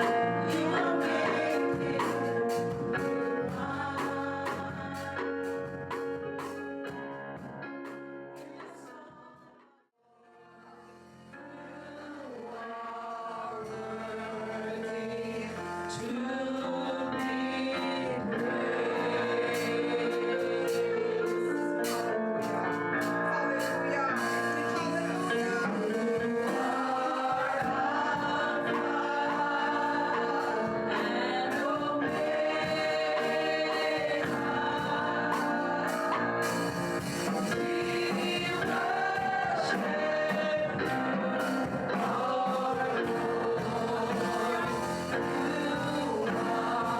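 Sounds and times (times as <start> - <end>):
group singing gospel in harmony: 0.0 - 7.6, 11.3 - 46.9
keyboard and instruments: 0.0 - 9.7, 10.6 - 46.9.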